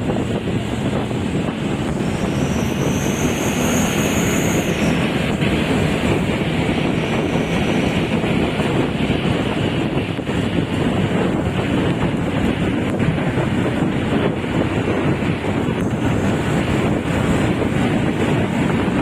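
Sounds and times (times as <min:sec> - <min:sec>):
vehicle running on road: 0:00.0 - 0:19.0
wind noise on microphone: 0:00.0 - 0:19.0.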